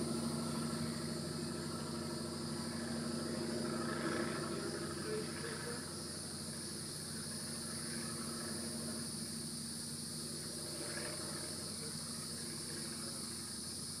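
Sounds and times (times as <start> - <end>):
insects droning in chorus: 0.0 - 14.0
low steady hum: 0.0 - 14.0.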